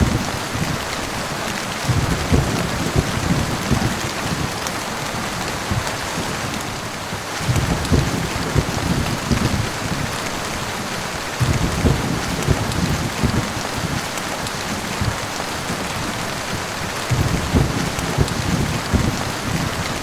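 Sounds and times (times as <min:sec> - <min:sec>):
heavy rain hissing: 0:00.0 - 0:20.0
low crackling thunder rumble: 0:00.0 - 0:20.0.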